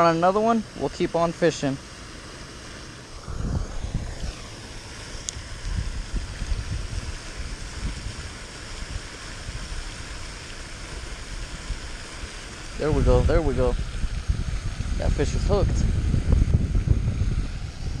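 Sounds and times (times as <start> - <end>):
fountain splashing: 0.0 - 18.0
wind buffeting microphone: 3.1 - 18.0.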